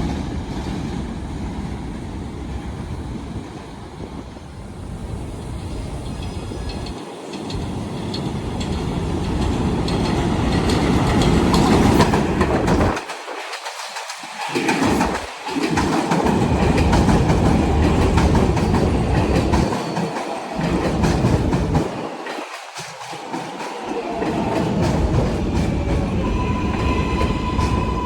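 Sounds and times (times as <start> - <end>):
subway train wheels clattering: 0.0 - 28.0.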